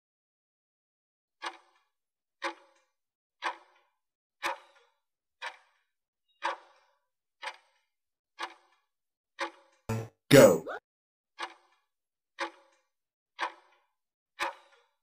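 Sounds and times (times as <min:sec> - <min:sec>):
clock-like timer ticks: 0:01.4 - 0:10.1, 0:11.4 - 0:15.0.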